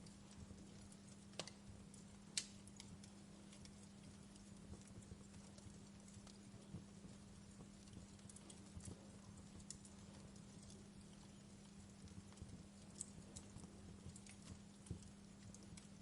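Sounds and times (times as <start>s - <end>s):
steady low hum: 0.0s - 16.0s
wood fire crackling: 0.0s - 16.0s.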